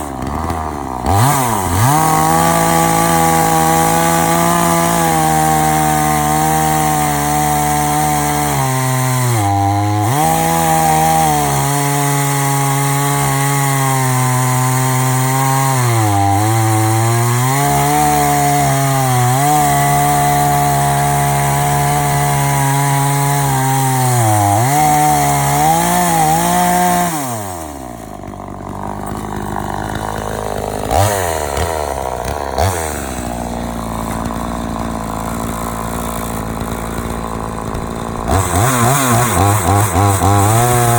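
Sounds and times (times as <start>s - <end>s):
chainsaw cutting through log: 0.0s - 40.9s
chainsaw idling: 0.0s - 40.9s.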